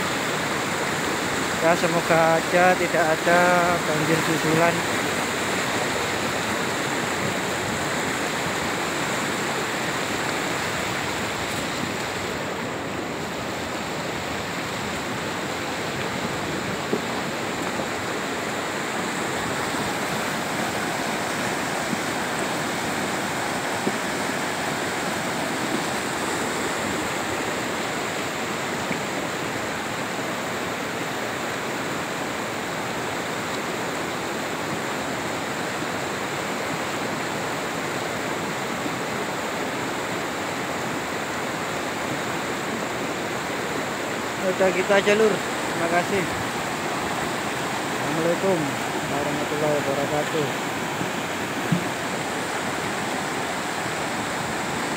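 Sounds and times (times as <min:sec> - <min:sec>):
floodwater roaring over rocks: 0:00.0 - 0:54.9.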